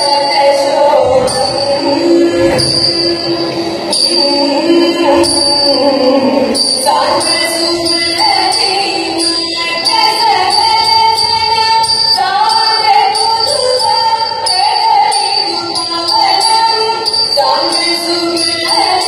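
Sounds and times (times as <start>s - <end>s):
light jingling percussion: 0.0s - 19.0s
woman singing: 0.0s - 19.0s.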